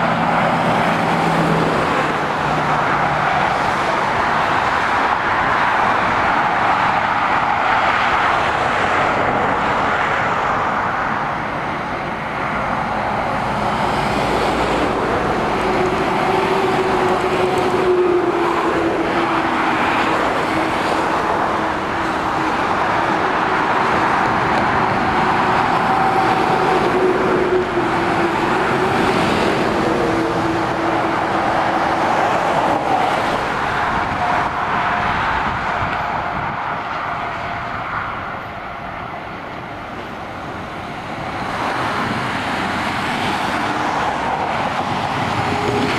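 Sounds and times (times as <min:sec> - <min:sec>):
motorway traffic passing: 0:00.0 - 0:45.9.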